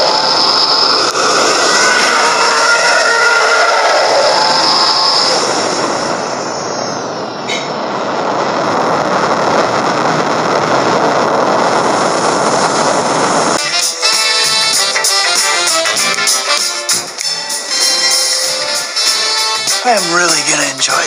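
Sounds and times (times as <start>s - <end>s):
spaceship engine rushing noise: 0.0s - 21.0s.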